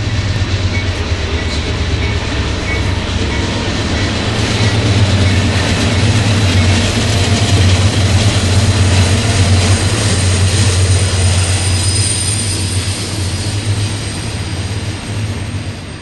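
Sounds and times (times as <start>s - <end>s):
diesel locomotive drone: 0.0s - 16.0s
rush of wheels on rail: 0.0s - 16.0s.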